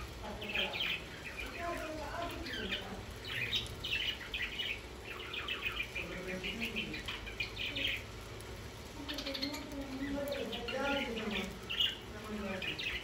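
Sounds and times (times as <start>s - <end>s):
budgerigars chattering: 0.0s - 8.1s, 9.0s - 13.0s.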